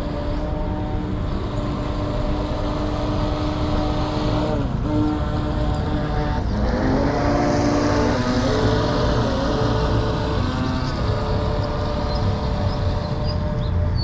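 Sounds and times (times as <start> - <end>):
model boat electric motor whining: 0.0 - 14.0.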